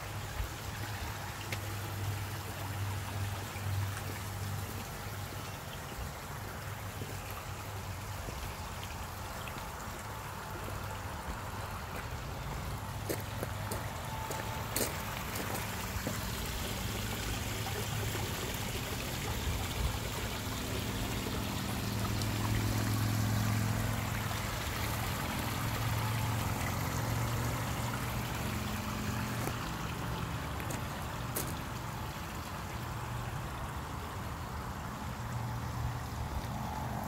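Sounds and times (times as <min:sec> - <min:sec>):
water trickling over stones: 0:00.0 - 0:37.0.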